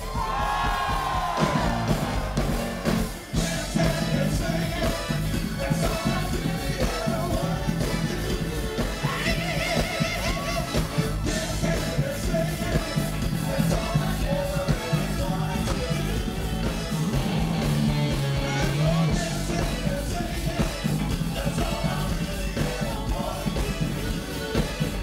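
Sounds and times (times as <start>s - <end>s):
electric bass guitar: 0.0s - 25.0s
live funk band playing: 0.0s - 25.0s
person singing: 0.0s - 25.0s.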